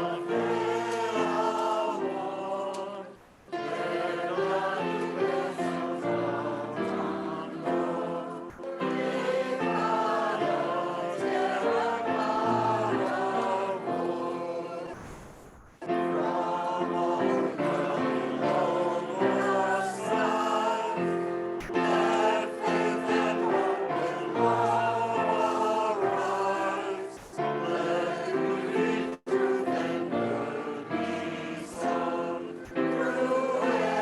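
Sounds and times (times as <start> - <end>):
many voices singing a hymn: 0.0 - 34.0.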